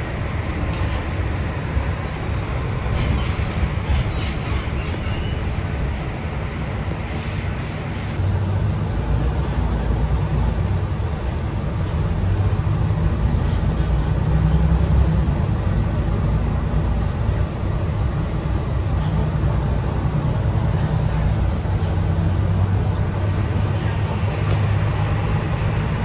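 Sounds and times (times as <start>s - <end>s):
bus diesel engine drone: 0.0s - 26.0s
road and tyre noise: 0.0s - 26.0s.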